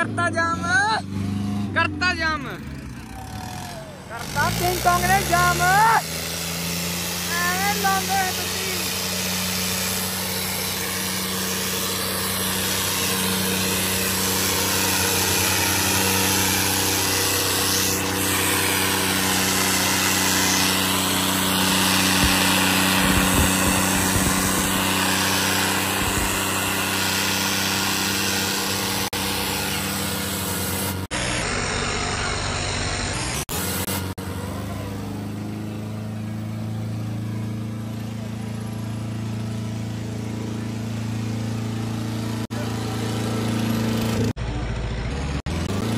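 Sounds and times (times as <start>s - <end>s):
tractor diesel engines running hard: 0.0s - 45.9s.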